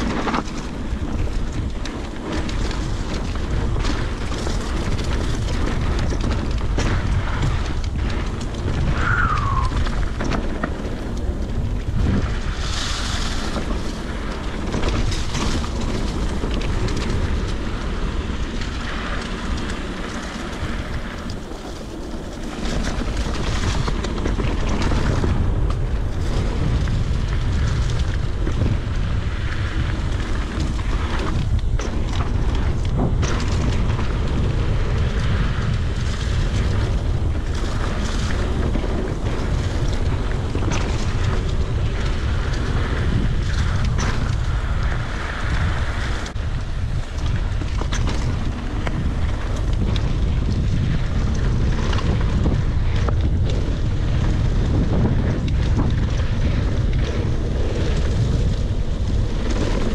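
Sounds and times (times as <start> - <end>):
bike rattling: 0.0 - 59.9
bike tyres rumbling on dirt: 0.0 - 59.9
wind buffeting microphone: 0.0 - 59.9.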